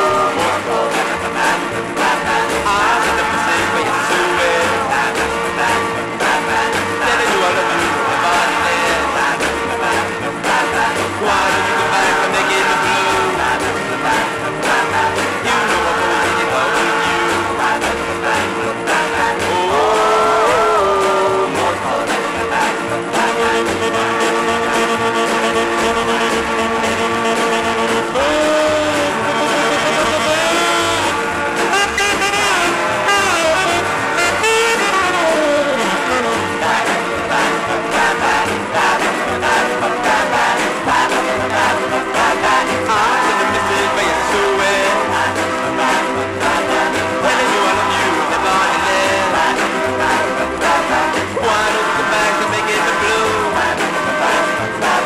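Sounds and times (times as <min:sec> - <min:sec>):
instrumental blues band playing: 0:00.0 - 0:55.0.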